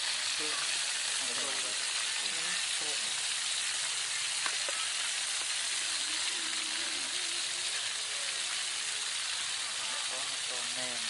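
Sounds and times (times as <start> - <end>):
frying in hot oil sizzle: 0.0 - 11.0.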